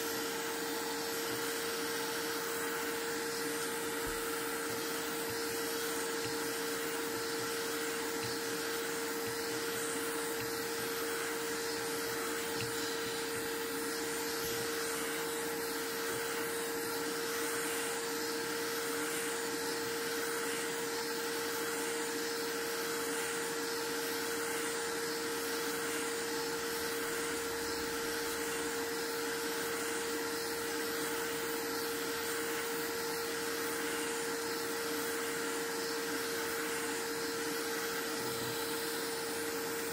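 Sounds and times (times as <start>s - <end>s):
small motor blowing air: 0.0s - 39.9s.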